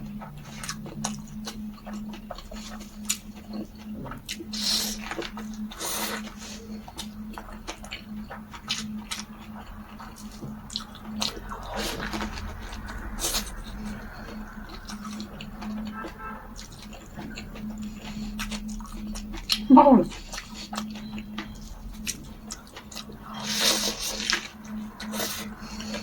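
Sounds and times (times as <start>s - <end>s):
person chewing food: 0.0s - 26.0s
steady low hum: 0.0s - 26.0s.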